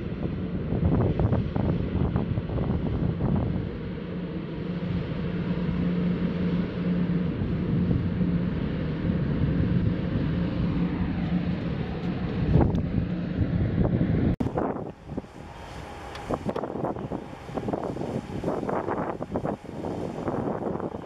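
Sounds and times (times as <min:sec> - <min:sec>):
low engine hum: 0:00.0 - 0:21.0
wind buffeting microphone: 0:00.0 - 0:21.0.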